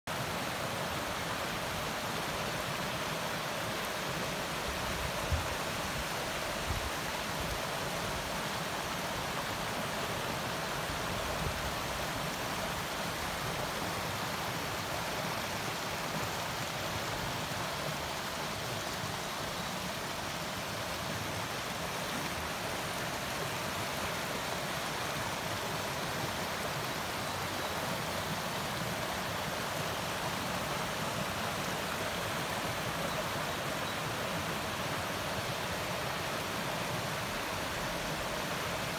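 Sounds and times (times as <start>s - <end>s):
stream flowing over stones: 0.1s - 38.9s.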